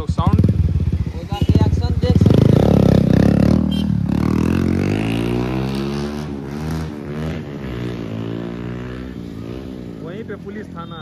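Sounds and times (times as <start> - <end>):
motorcycle engine accelerating: 0.0 - 10.6.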